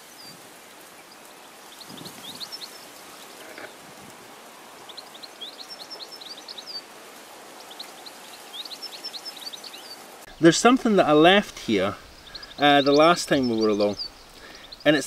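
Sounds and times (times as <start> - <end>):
soft outdoor hiss: 0.0 - 15.0
small songbird chirping: 1.0 - 3.8, 4.7 - 15.0.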